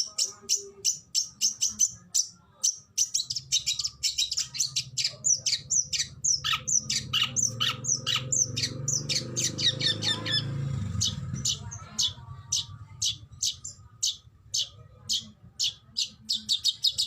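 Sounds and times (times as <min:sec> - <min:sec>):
bird singing harsh notes: 0:00.0 - 0:17.0.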